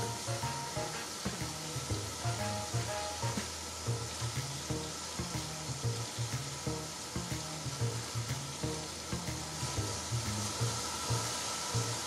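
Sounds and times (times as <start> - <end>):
background music with bass line: 0.0 - 12.0
tap water running and splashing: 0.0 - 12.0.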